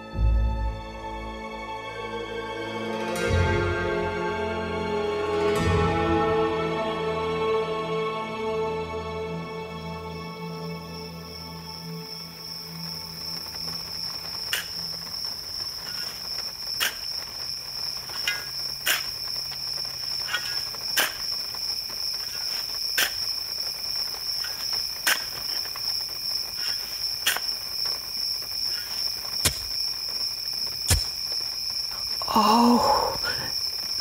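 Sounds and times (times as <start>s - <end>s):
insect chorus drone: 0.0s - 34.0s.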